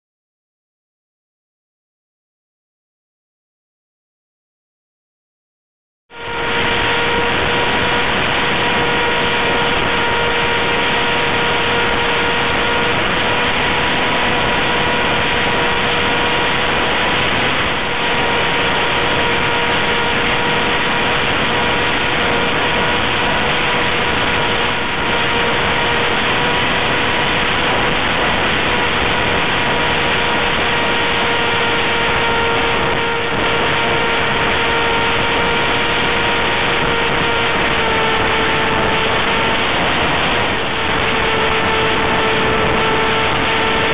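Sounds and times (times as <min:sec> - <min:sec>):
electric motor and propeller whining: 0:06.1 - 0:43.9
wind rushing over microphone: 0:06.1 - 0:43.9.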